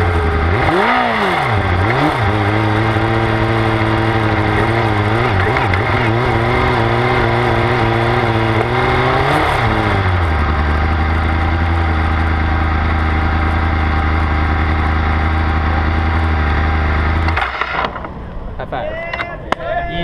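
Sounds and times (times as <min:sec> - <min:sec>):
race car engine idling: 0:00.0 - 0:18.8.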